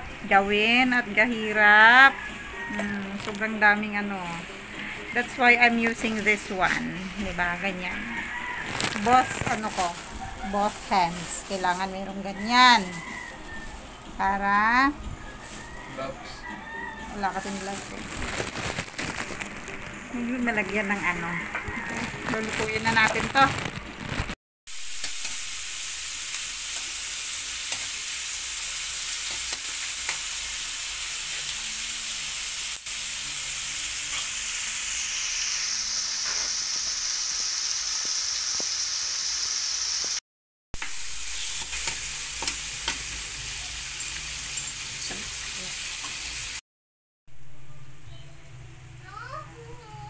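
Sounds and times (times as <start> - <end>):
meat sizzling in hot oil: 0.4 - 15.9, 16.7 - 40.2, 40.8 - 46.6.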